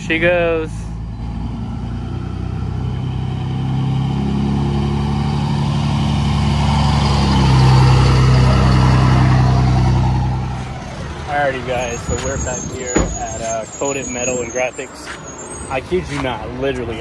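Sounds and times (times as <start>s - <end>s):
vehicle engine pulling away: 0.0s - 17.0s.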